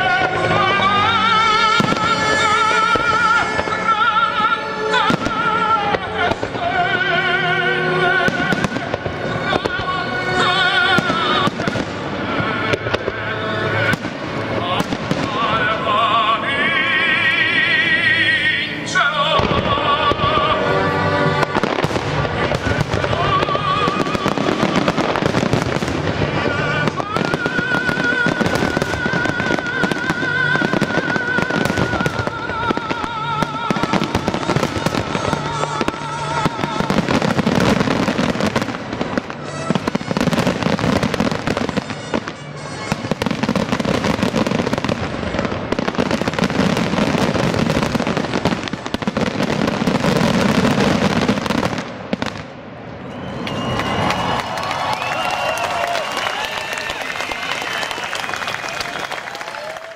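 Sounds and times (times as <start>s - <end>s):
person singing long notes: 0.0s - 51.8s
recorded music: 0.0s - 52.6s
fireworks bursting: 0.0s - 59.9s.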